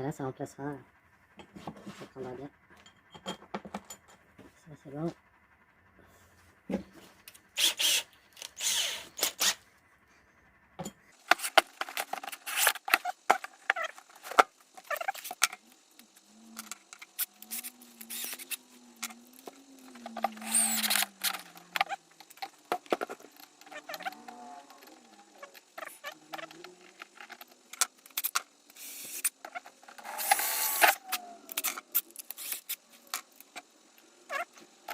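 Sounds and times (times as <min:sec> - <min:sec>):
faint low wavering whine: 0:00.0 - 0:34.9
tools clicking and scraping: 0:01.4 - 0:04.3, 0:07.2 - 0:09.6, 0:10.8 - 0:34.9.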